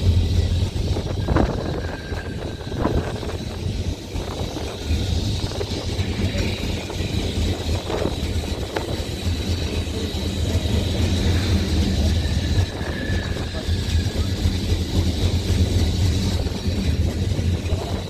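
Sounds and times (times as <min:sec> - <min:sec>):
thin high whine: 0:00.0 - 0:18.0
tram motors and wheels rumbling: 0:00.0 - 0:18.0.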